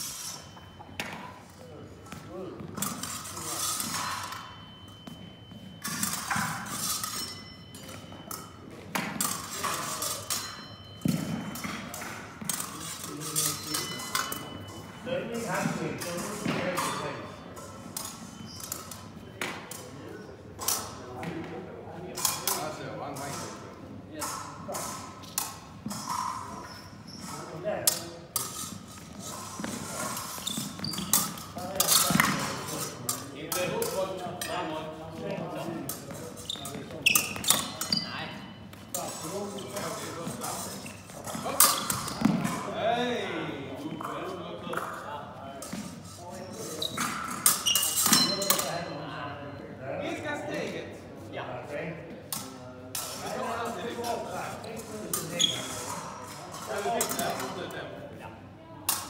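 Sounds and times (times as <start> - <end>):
fencing blades clashing: 0.0 - 20.0, 20.6 - 21.2, 22.1 - 49.1, 52.3 - 57.8.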